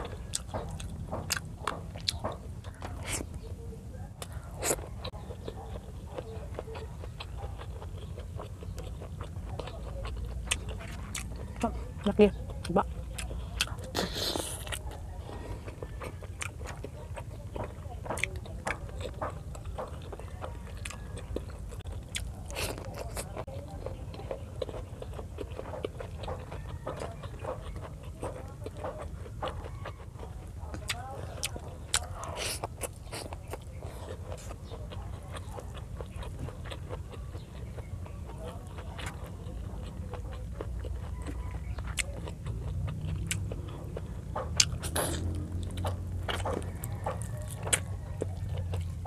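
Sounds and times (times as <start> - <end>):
wet chewing clicks and smacks: 0.0 - 49.0.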